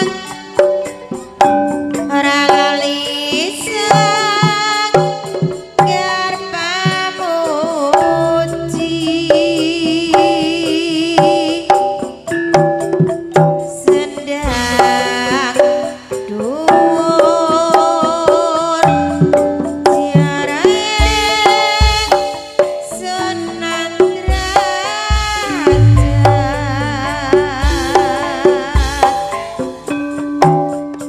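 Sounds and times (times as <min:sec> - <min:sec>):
hand drum dance rhythm: 0:00.0 - 0:31.0.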